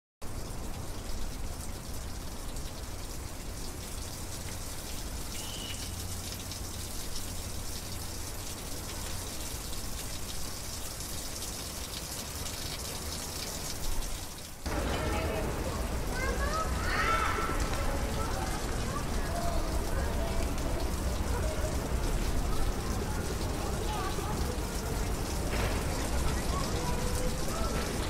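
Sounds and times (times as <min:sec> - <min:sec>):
water fountain splashing: 0:00.2 - 0:28.0.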